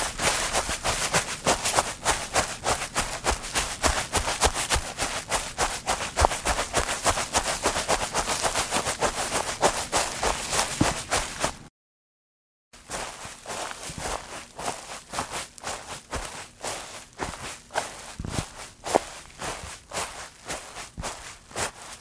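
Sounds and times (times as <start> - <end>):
footsteps on grass: 0.0 - 11.7, 12.8 - 22.0.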